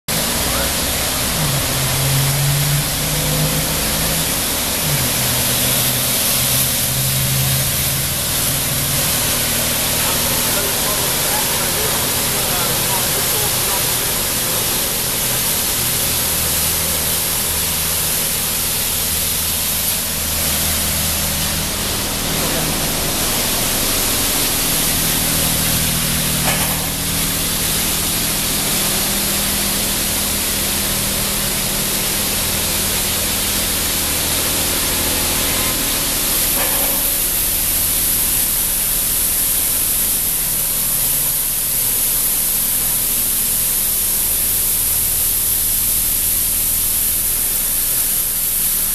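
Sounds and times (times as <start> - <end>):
machinery hum: 0.1 - 48.9
spraying water hiss: 0.1 - 48.9.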